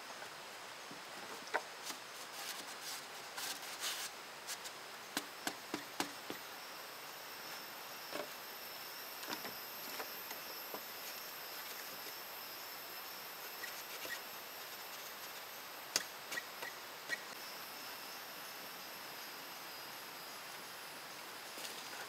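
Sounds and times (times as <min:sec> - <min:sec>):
high-pitched insect chorus: 0:04.0 - 0:22.0.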